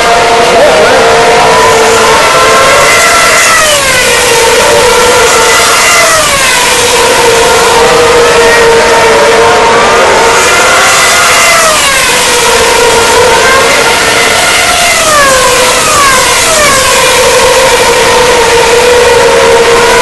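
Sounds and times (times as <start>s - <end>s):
racing cars passing: 0.0s - 20.0s.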